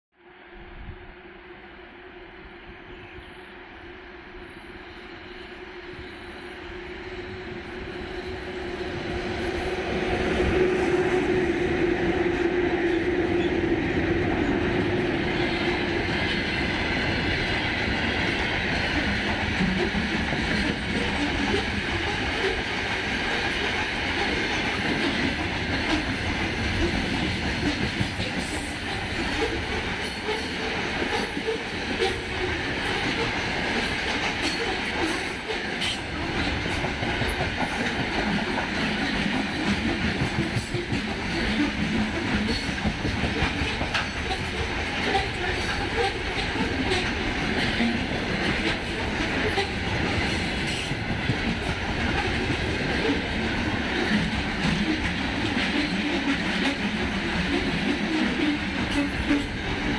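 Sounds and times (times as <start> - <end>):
electric locomotives humming: 1.8 - 59.9.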